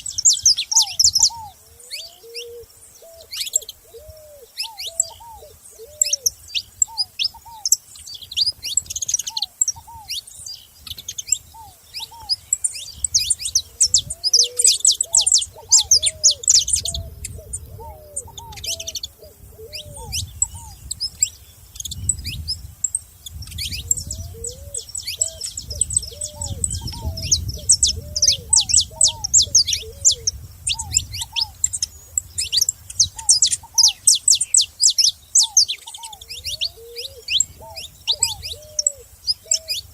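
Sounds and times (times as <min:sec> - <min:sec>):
finches chirping and trilling: 0:00.0 - 0:39.9.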